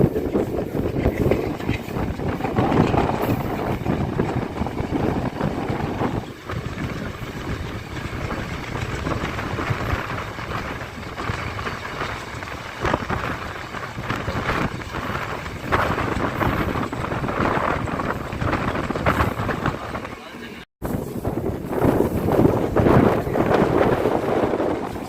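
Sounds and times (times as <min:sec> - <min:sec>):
train rumble and rattle: 0:00.0 - 0:25.0
wind buffeting microphone: 0:00.0 - 0:25.0.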